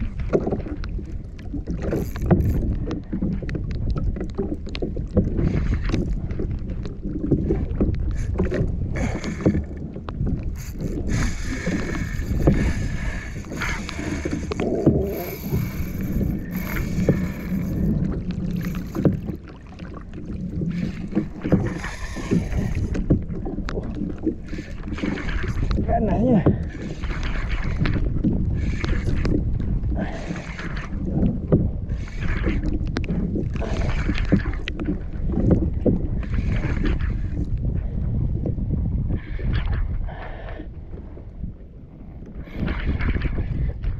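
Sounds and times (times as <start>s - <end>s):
water splashing against hull: 0.0s - 43.9s
wind rumbling on microphone: 0.0s - 43.9s.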